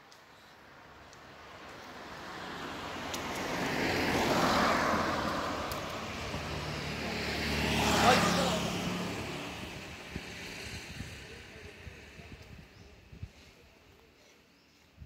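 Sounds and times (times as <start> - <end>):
cars passing on road: 0.0 - 13.3.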